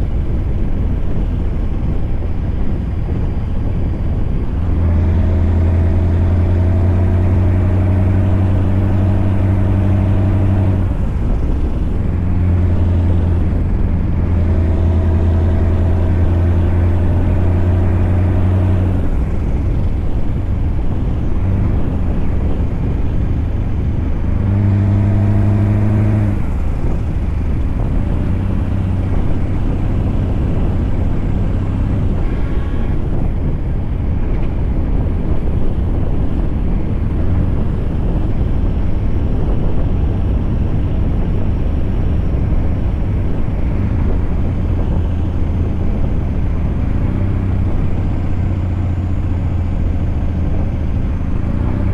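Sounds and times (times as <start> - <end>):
road noise: 0.0 - 51.9
truck engine drone: 0.0 - 51.9.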